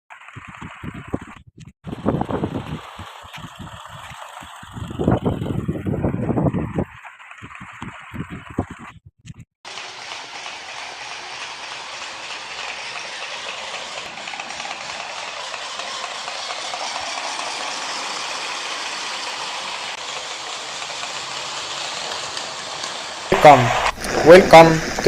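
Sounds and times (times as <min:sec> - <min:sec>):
train running with clatter: 0:00.1 - 0:08.9, 0:09.7 - 0:25.0.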